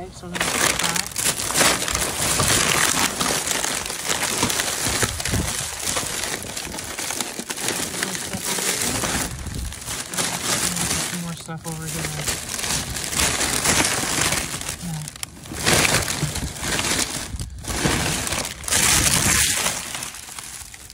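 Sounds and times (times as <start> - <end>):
plastic bags crinkling: 0.0 - 20.9.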